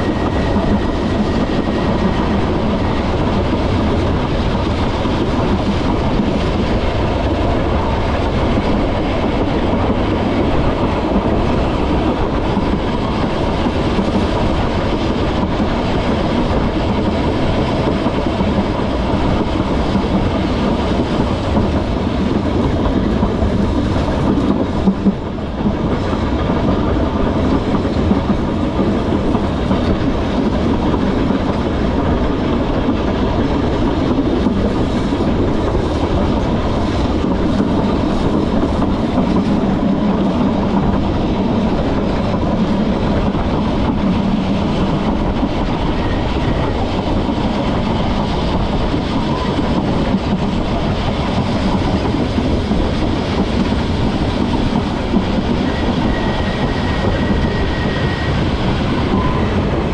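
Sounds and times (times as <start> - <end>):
tram wheels running on rails: 0.0 - 59.9.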